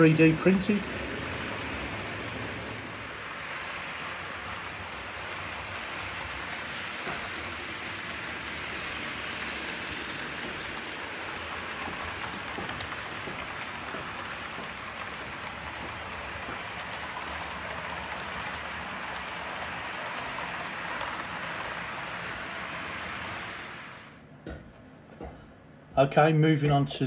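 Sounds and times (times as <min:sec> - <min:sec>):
model train wheels whirring: 0:00.0 - 0:24.2.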